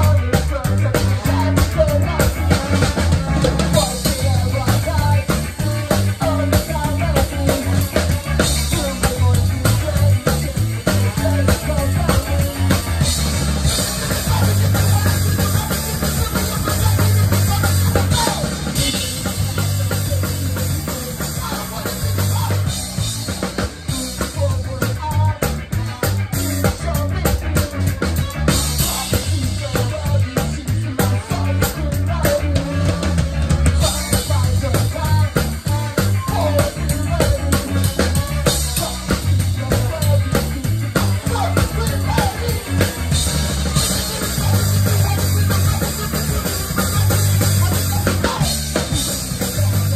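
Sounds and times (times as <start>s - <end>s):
drum hits and cymbals: 0.0s - 49.9s
rock band playing: 0.0s - 49.9s.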